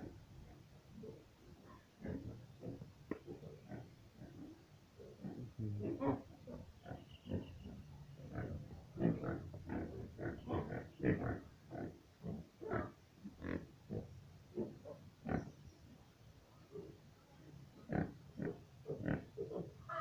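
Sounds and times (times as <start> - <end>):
pigs grunting: 1.0 - 15.6, 16.7 - 17.0, 17.8 - 20.0.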